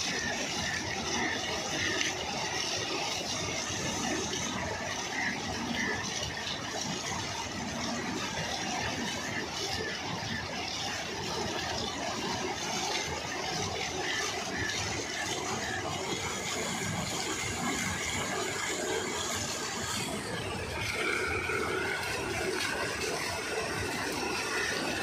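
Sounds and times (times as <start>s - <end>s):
paddle wheel churning water: 0.0s - 25.0s.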